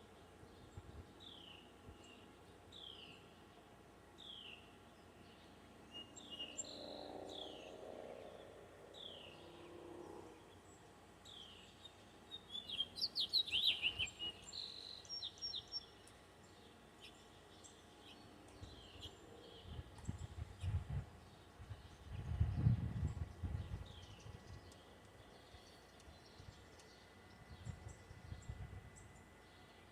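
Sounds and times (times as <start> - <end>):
faint low hum: 0.0 - 29.9.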